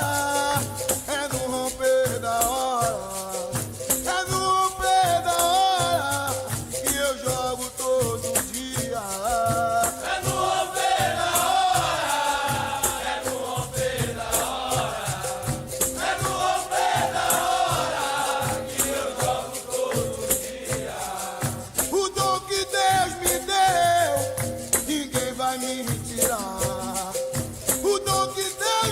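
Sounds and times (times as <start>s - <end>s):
shaken rattle: 0.0s - 28.9s
steady percussion: 0.0s - 28.9s
voices singing: 0.0s - 28.9s.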